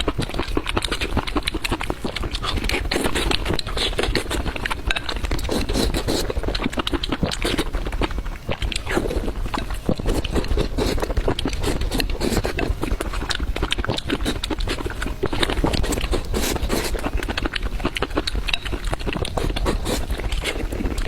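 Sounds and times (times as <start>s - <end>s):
chewing with wet smacking: 0.0s - 21.0s.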